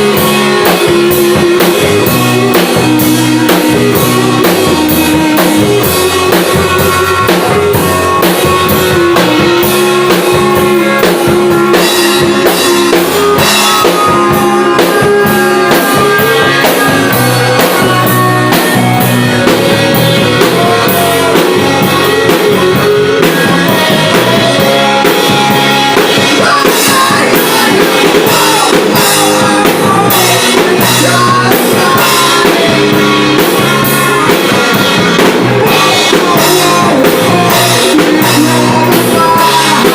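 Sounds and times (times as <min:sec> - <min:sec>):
drum kit beat: 0:00.0 - 0:39.9
electric guitar and bass: 0:00.0 - 0:39.9
gliding lead melody: 0:00.0 - 0:39.9.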